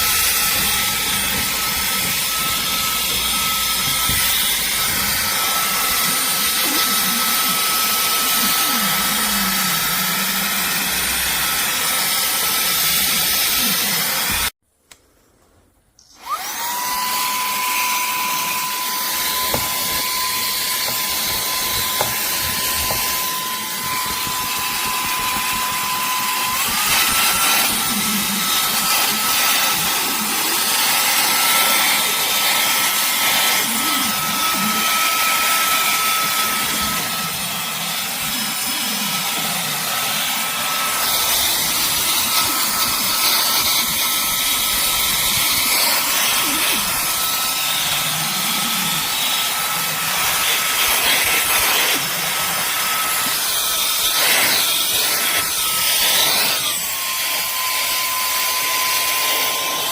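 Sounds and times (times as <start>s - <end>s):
handheld vacuum cleaner whine: 0.0s - 14.6s, 16.0s - 59.9s.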